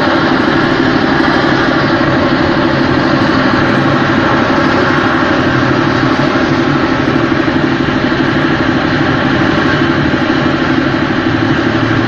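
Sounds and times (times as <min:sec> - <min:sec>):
rocket motor roaring: 0:00.0 - 0:12.0.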